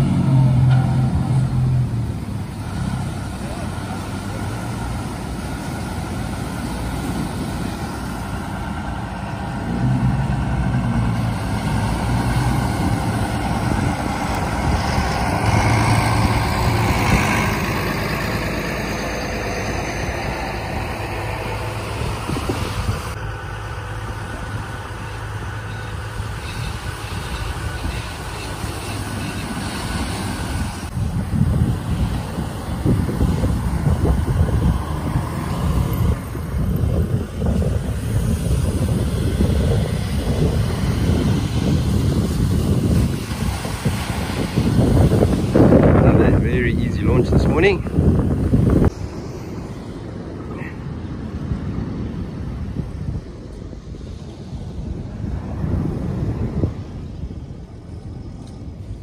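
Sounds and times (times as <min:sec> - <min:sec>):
waves breaking: 0:00.0 - 0:23.2, 0:23.9 - 0:59.0
wind: 0:00.0 - 0:59.0.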